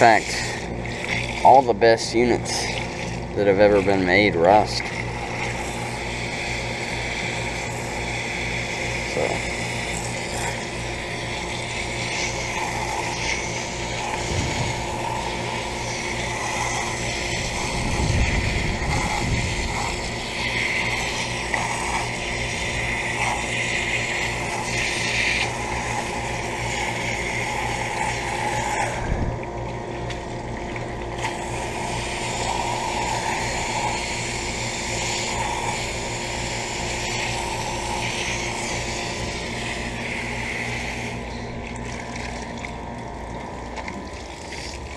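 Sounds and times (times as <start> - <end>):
hose water spraying on metal: 0.0 - 43.0
low mechanical hum: 0.0 - 44.9.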